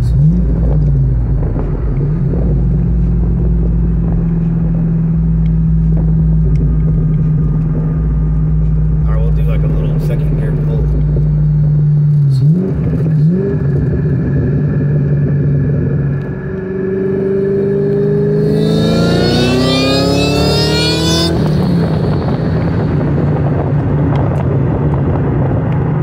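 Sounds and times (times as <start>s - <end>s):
car engine revving: 0.0s - 26.0s
supercharger whine: 0.0s - 26.0s.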